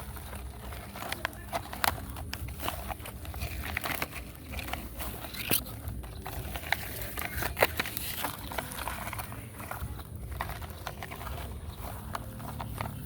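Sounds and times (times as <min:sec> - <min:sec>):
soil and stones scraping: 0:00.0 - 0:13.0.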